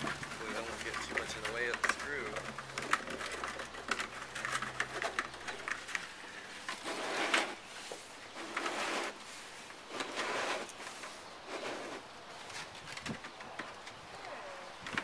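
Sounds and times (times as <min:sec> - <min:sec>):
scraping and rubbing: 0:00.0 - 0:15.0.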